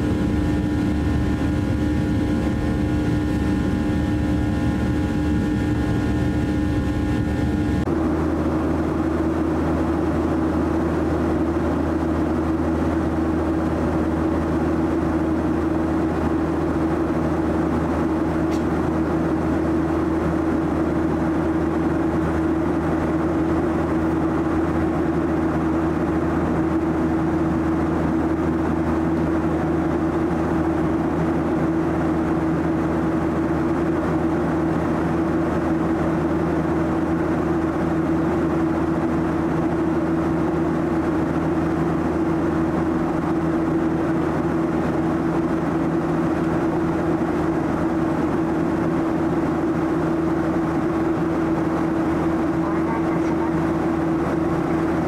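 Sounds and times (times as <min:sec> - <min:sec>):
constant hum: 0:00.0 - 0:55.0
jet engine cabin drone: 0:00.0 - 0:55.0.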